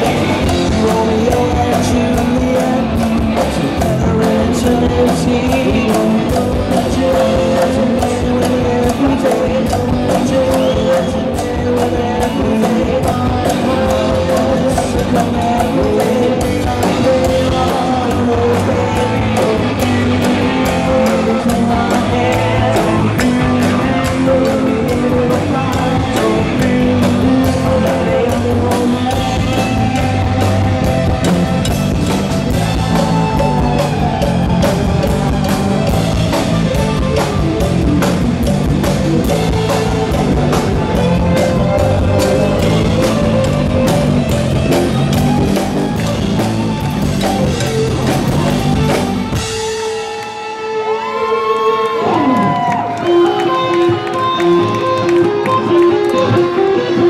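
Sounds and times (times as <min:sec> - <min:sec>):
person singing: 0:00.0 - 0:57.0
rock band playing loudly: 0:00.0 - 0:57.0.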